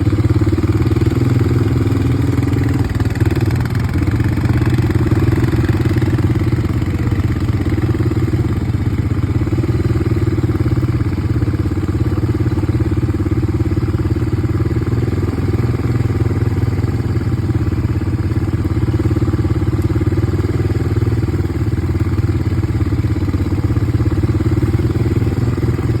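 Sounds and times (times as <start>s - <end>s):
atv engine running steadily: 0.0s - 26.0s.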